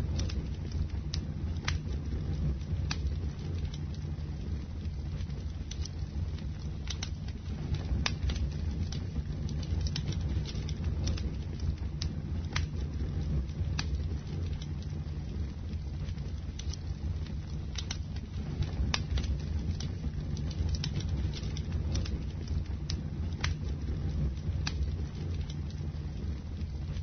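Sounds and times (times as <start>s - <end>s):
burning wood crackling and popping: 0.0s - 27.0s
low roar of flames: 0.0s - 27.0s.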